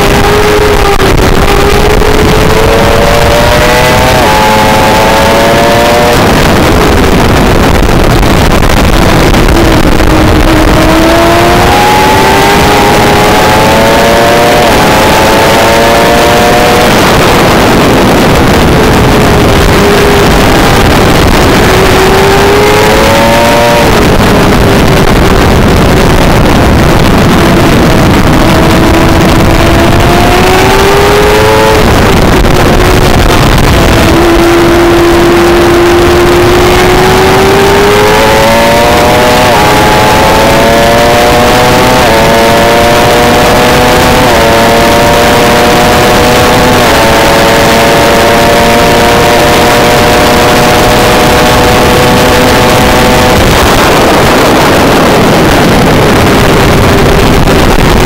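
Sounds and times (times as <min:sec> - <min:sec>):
sport bike engine revving: 0:00.0 - 0:58.0
wind noise on microphone: 0:00.0 - 0:58.0.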